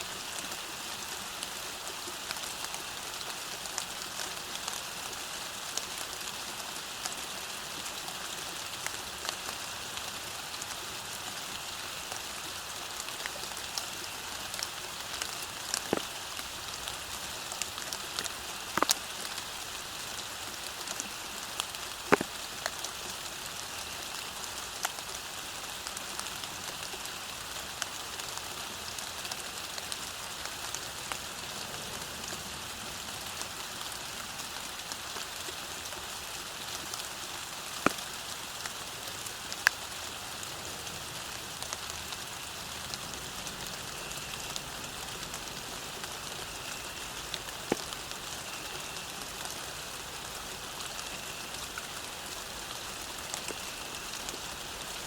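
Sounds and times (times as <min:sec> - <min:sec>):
rain falling on ground: 0:00.0 - 0:55.0.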